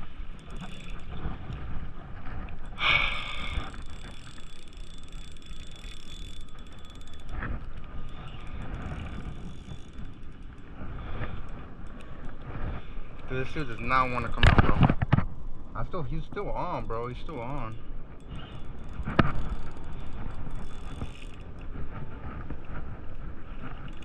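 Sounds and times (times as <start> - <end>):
fishing reel clicking and ratcheting: 0.2 - 12.5, 13.1 - 14.8, 15.8 - 22.8, 23.6 - 24.0.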